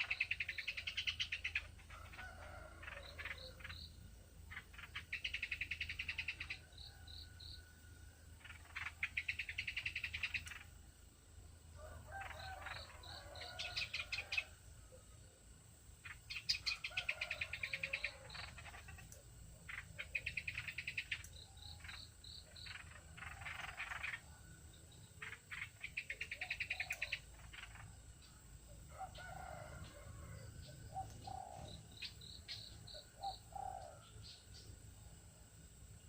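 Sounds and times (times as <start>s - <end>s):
songbirds chattering: 0.0s - 7.7s, 8.3s - 11.1s, 12.1s - 14.6s, 16.0s - 34.8s.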